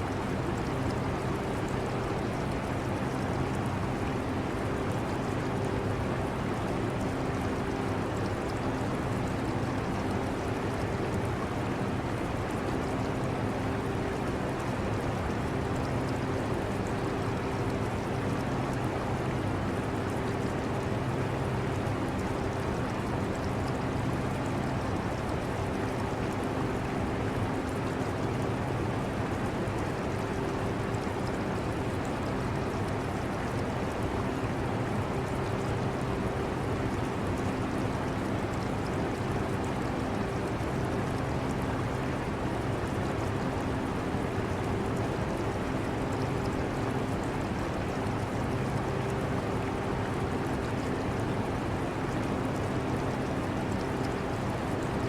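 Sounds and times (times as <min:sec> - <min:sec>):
aquarium water bubbling: 0:00.2 - 0:55.0.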